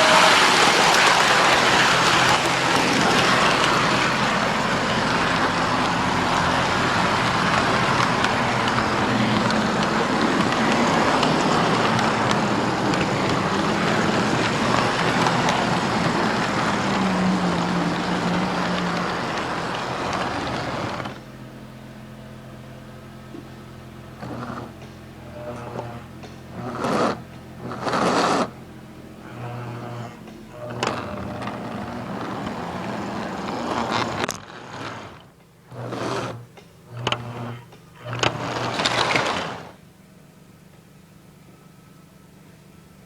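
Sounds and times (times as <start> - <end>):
model train rumbling on track: 0.0 - 40.0.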